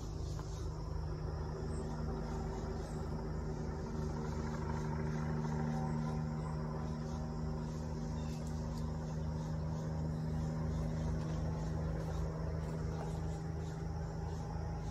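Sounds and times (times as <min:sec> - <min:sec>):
helicopter engine hum: 0:00.0 - 0:14.9.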